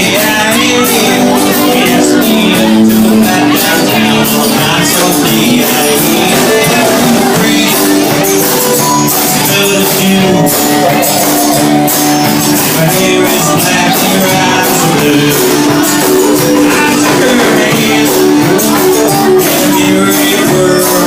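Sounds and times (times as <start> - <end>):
live band playing amplified music: 0.0 - 21.0.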